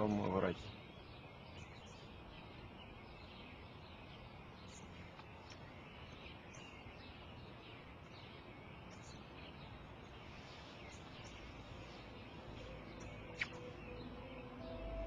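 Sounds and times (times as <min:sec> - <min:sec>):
small birds chirping: 0:00.0 - 0:15.0
soft steady hiss: 0:00.0 - 0:15.0.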